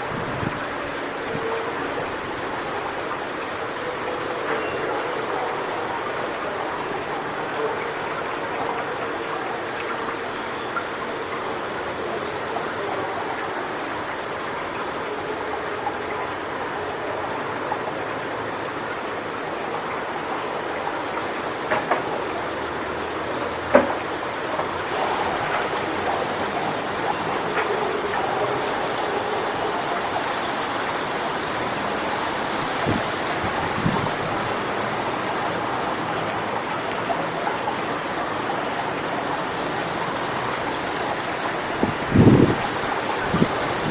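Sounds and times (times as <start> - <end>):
wind rustling palm fronds: 0.0 - 43.9.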